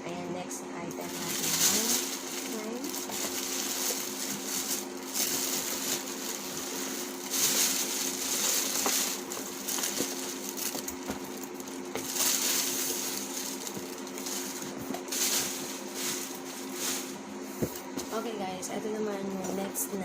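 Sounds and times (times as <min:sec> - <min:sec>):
faint steady hum: 0:00.0 - 0:20.0
packaging rustling and crinkling: 0:01.0 - 0:18.1.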